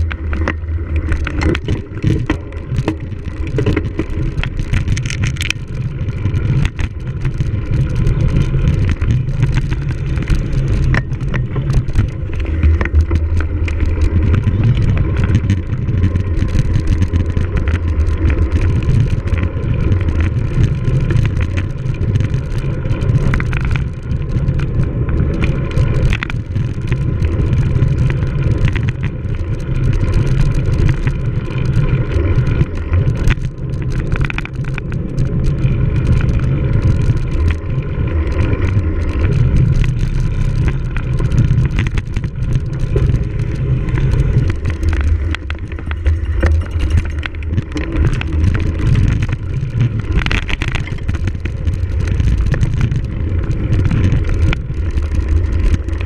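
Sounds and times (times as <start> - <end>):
bike rattling over rough ground: 0.0 - 56.0
wind rumbling on microphone: 0.0 - 56.0.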